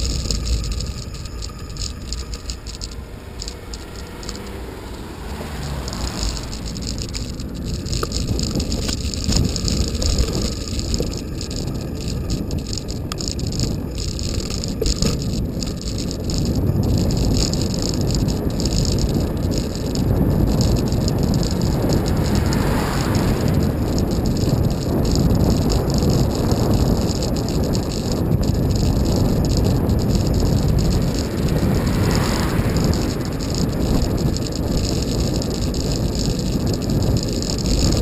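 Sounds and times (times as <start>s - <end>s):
bicycle rattling clicks: 0.0s - 38.0s
road and wind noise: 0.0s - 38.0s.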